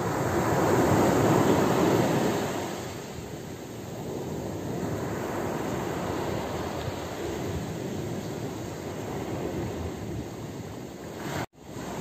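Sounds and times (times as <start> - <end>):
waves washing up pebble beach: 0.0 - 10.3.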